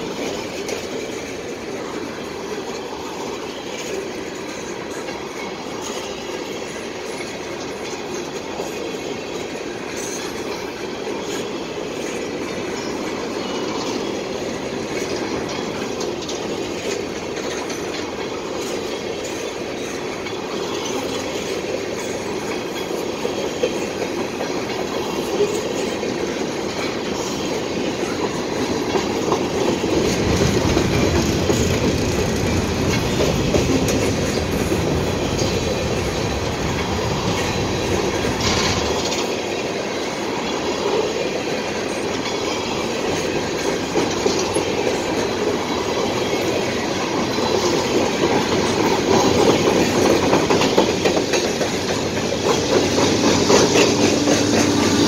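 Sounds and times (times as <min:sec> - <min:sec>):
train wheels clicking over rail joints: 0:00.0 - 0:55.0.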